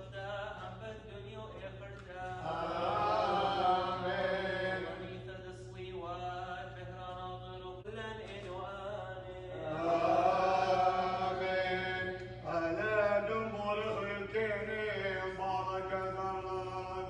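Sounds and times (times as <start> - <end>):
low steady hum: 0.0 - 17.0
person chanting: 2.0 - 6.8, 7.8 - 17.0.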